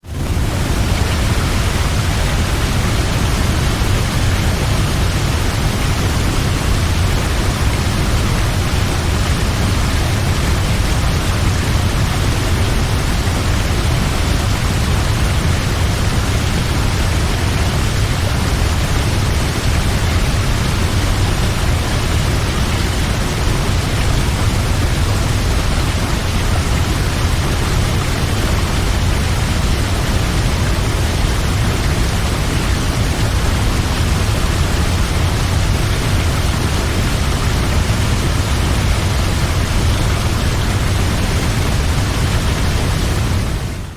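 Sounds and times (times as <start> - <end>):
waterfall rushing: 0.1 - 43.9.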